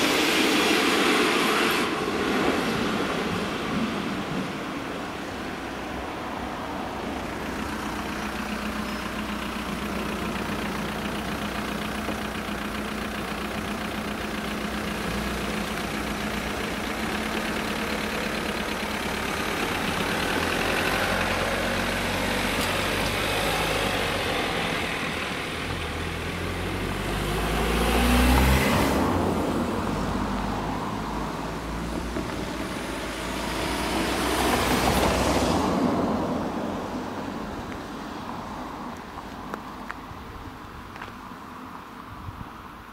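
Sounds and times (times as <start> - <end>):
engines idling: 0.0 - 42.9
vehicle pulling away and passing: 0.0 - 42.9.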